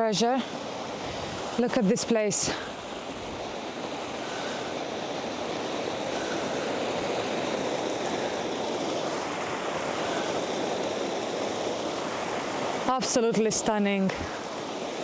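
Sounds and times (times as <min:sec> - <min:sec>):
water rushing in small waterfall: 0:00.0 - 0:15.0.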